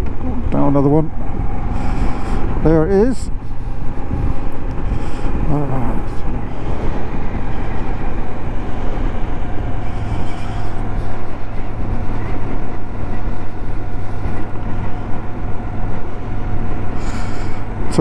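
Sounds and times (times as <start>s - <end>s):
motorcycle engine cruising: 0.0s - 18.0s
wind and road rush: 0.0s - 18.0s.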